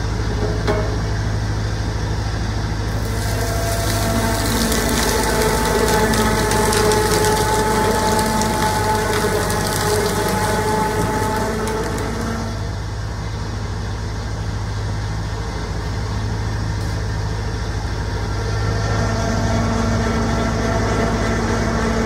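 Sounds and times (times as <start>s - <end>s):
juice machine mechanical hum: 0.0s - 22.0s
steady machine tone: 1.0s - 22.0s.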